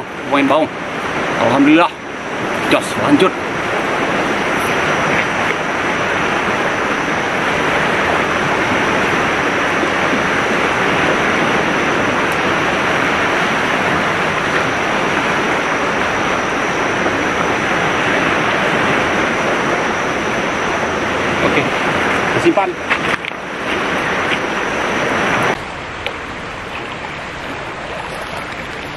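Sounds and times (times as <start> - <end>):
river rushing: 0.0 - 28.9.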